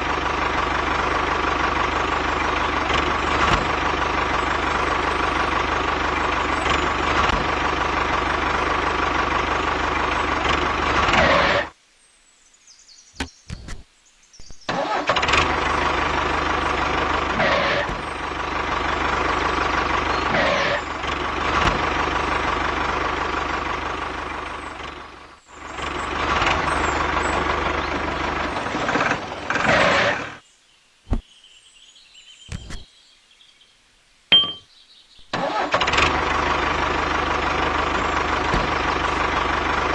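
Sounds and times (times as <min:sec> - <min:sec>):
small tractor engine humming: 0:00.0 - 0:11.7, 0:14.7 - 0:30.4, 0:34.3 - 0:34.6, 0:35.2 - 0:39.9.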